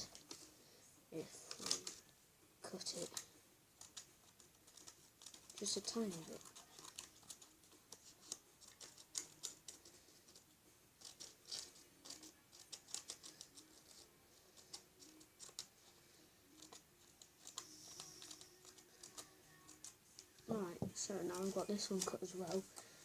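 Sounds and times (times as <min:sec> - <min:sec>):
paper rustling: 0:01.4 - 0:02.1, 0:02.9 - 0:20.5, 0:21.2 - 0:23.0
scissors snipping paper: 0:01.5 - 0:02.0, 0:02.8 - 0:20.4, 0:21.3 - 0:22.9.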